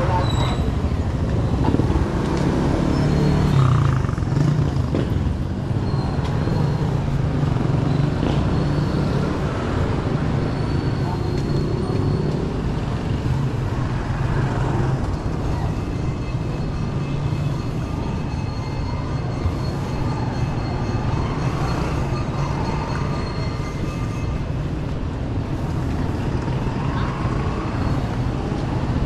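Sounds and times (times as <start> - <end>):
cars passing: 0.0 - 29.0
motorcycles passing: 0.0 - 29.0.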